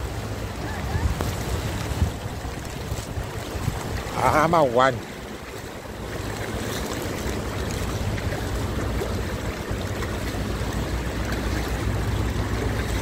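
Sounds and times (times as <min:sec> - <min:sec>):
water rushing and sloshing: 0:00.0 - 0:13.0.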